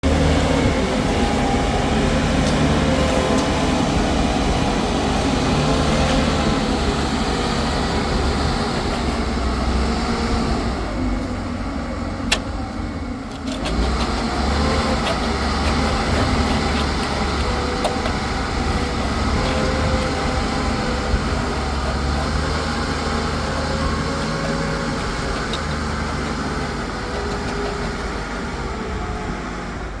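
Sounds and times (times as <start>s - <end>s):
concrete mixer engine running: 0.0s - 30.0s.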